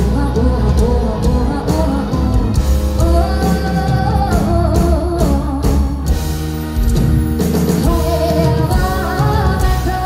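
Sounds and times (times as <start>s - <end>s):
pop-rock band playing: 0.0s - 10.0s.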